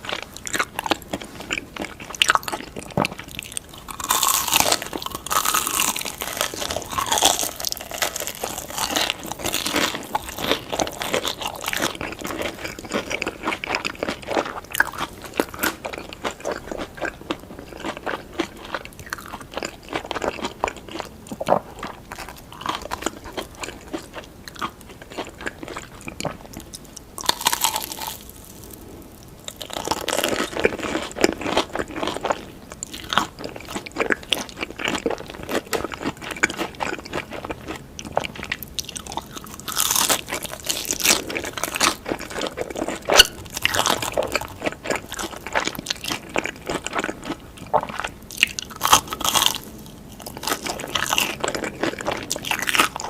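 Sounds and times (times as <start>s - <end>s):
biting and chewing: 0.0s - 53.0s.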